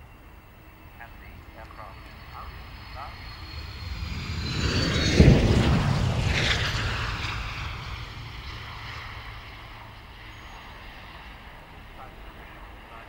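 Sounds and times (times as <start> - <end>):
jet rushing past: 0.8 - 11.9.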